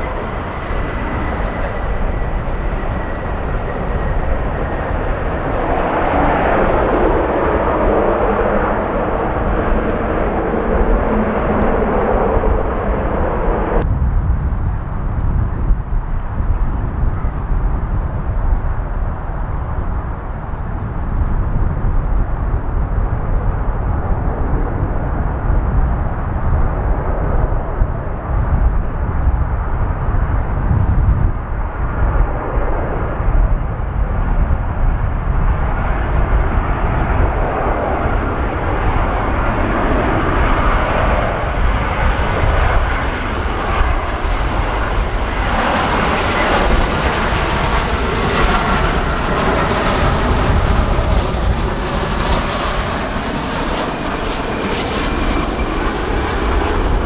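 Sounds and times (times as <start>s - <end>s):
jet engines of landing airliner: 0.0s - 57.0s
strong wind on microphone: 0.0s - 57.0s.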